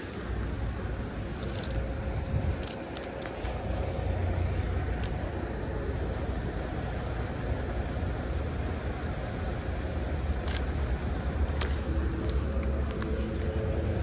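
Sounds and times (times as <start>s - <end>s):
traffic rumble on wet street: 0.0s - 14.0s.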